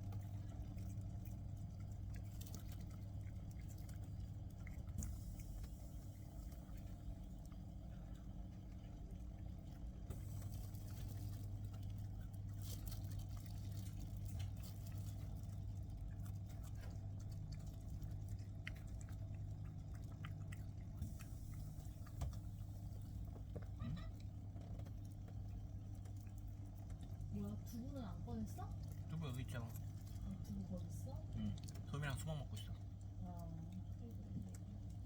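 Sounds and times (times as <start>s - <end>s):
pet chewing wetly: 0.0s - 35.0s
steady low hum: 0.0s - 35.0s.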